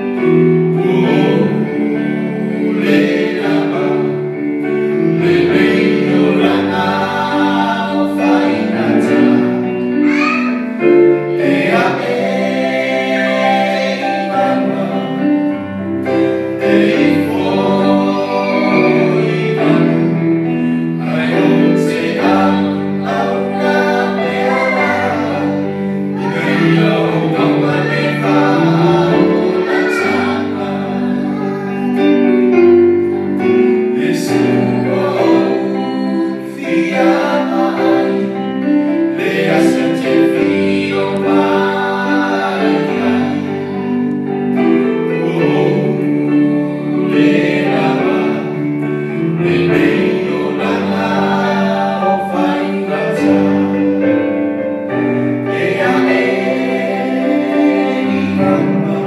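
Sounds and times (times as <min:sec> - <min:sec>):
people singing into microphones: 0:00.0 - 0:59.0
sustained accompaniment chords: 0:00.0 - 0:59.0.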